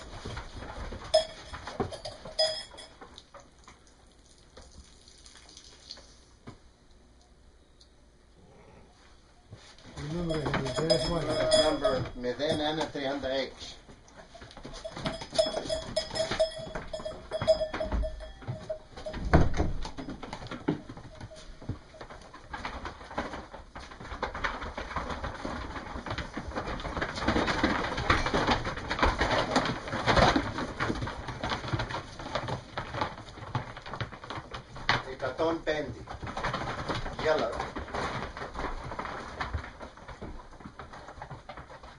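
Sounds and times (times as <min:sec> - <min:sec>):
sheep shuffling on wooden floor: 0:00.0 - 0:03.1, 0:09.5 - 0:41.9.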